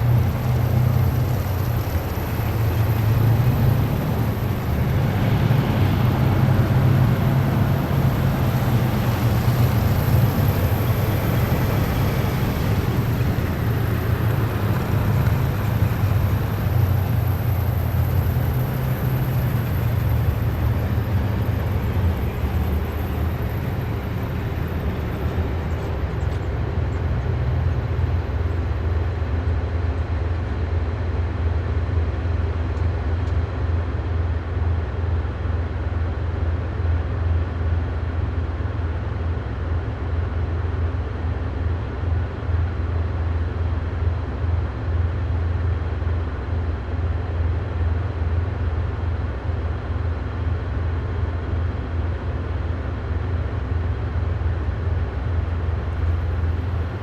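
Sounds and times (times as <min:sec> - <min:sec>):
heavy vehicle engines rumbling: 0:00.0 - 0:57.0.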